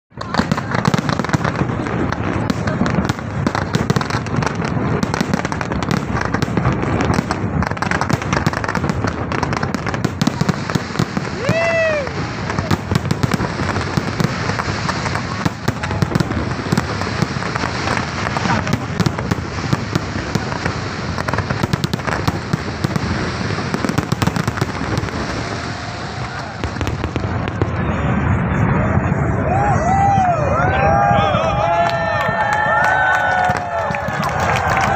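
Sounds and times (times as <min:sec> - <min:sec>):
fireworks crackling and popping: 0:00.1 - 0:34.9.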